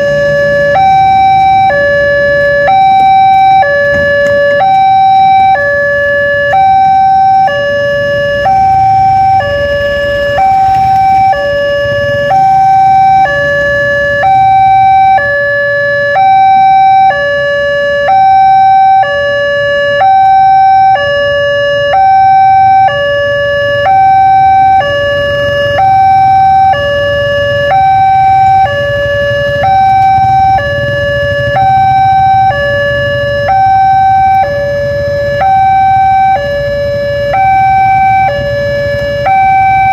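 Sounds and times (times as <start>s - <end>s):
two-tone crossing warning siren: 0.0s - 39.9s.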